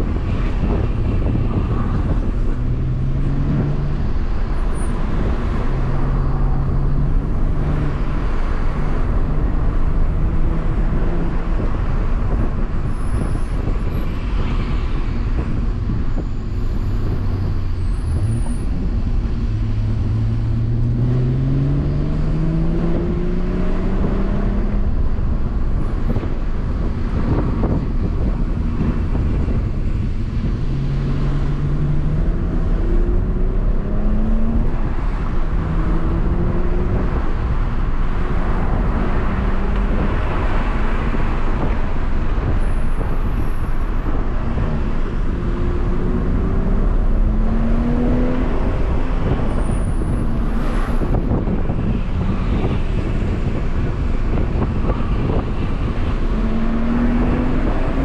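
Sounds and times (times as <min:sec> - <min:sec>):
car engine accelerating: 0:00.0 - 0:13.7, 0:14.3 - 0:58.0
road and tyre noise: 0:00.0 - 0:58.0.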